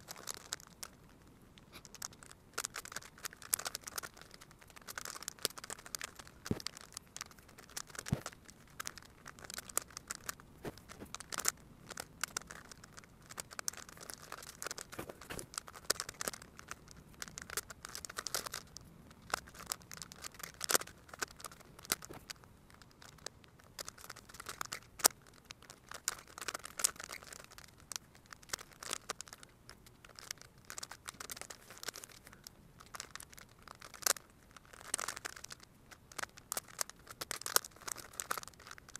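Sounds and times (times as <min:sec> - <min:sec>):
puzzle cube clicking and scraping: 0:00.0 - 0:38.9.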